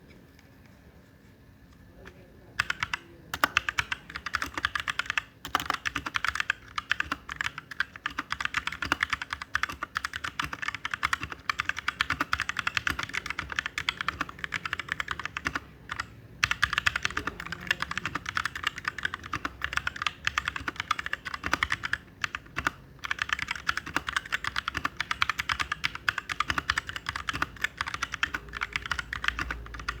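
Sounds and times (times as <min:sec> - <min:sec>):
mechanical keyboard typing: 0:02.0 - 0:30.0.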